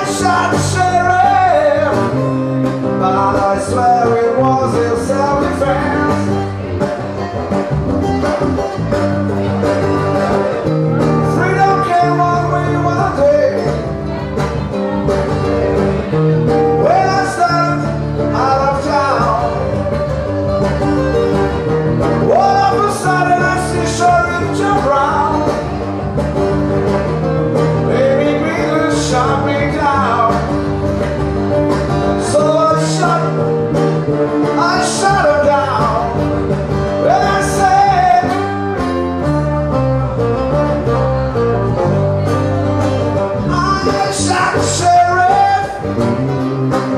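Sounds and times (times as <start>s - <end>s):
live country-blues band: 0.0s - 46.9s
sliding lead guitar line: 0.0s - 46.9s.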